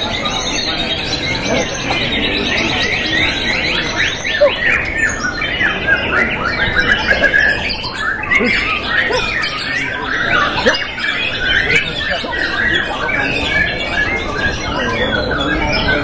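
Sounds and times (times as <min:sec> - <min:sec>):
chorus of birds singing: 0:00.0 - 0:16.0.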